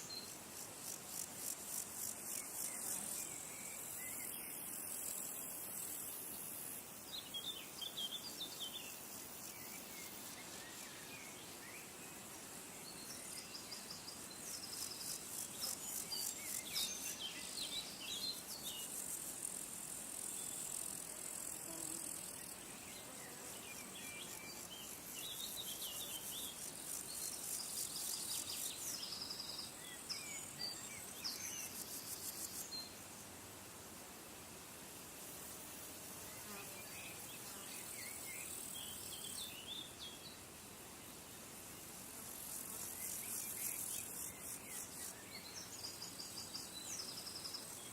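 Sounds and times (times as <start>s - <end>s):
insects trilling: 0.0s - 34.0s, 35.2s - 47.9s.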